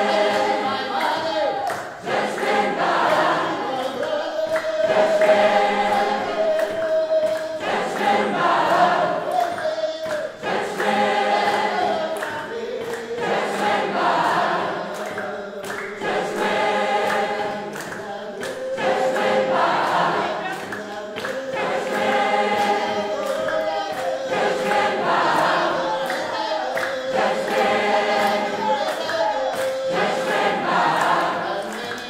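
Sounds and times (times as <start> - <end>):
group of people singing: 0.0 - 32.0.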